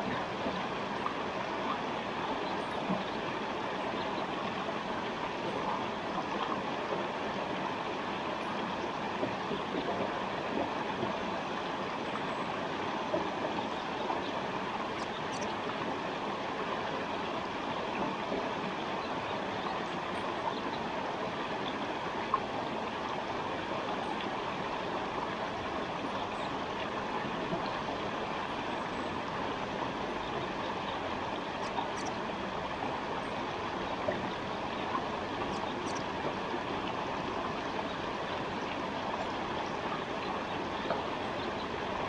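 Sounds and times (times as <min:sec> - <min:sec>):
stream flowing: 0:00.0 - 0:42.0.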